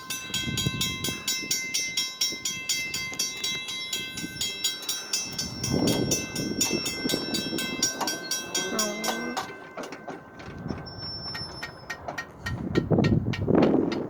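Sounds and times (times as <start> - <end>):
railroad crossing bell ringing: 0.0 - 13.2
low train rumble: 0.0 - 14.0.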